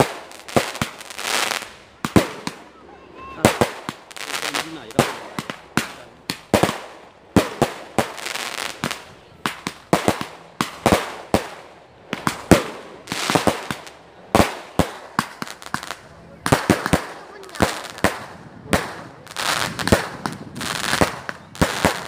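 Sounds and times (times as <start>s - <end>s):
fireworks bangs: 0.0s - 22.0s
fireworks crackling hiss: 0.0s - 22.0s.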